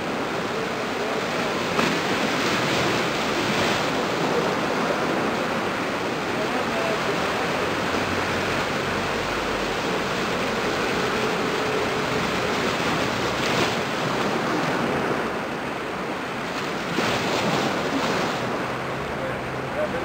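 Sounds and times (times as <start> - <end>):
small waves washing ashore: 0.0 - 20.0.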